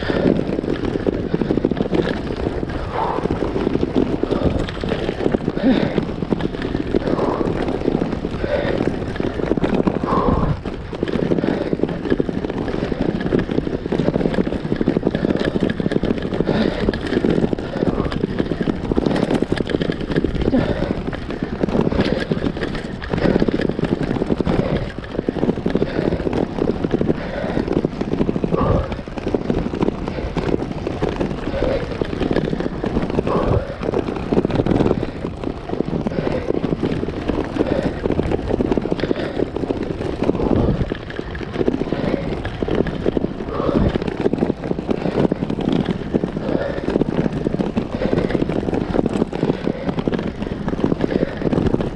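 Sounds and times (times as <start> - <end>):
bike rattling over cobblestones: 0.0 - 51.9.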